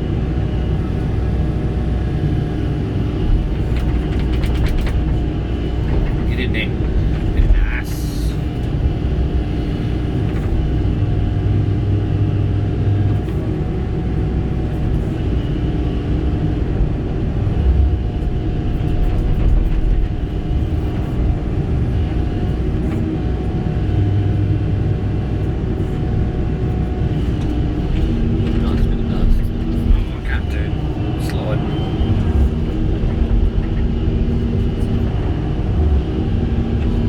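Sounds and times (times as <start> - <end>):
excavator diesel engine rumbling: 0.0 - 37.0
low drone: 0.0 - 37.0
steady whine: 0.0 - 37.0.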